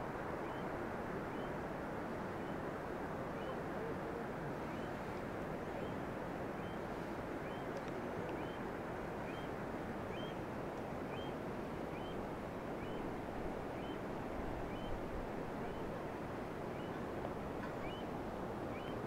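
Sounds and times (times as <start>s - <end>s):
mountain river rushing: 0.0s - 19.0s.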